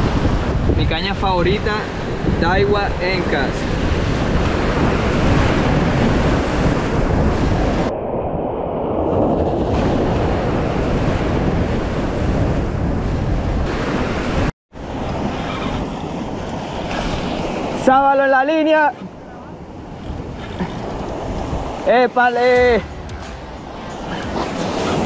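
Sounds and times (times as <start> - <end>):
wind buffeting microphone: 0.0 - 17.9, 18.6 - 25.0.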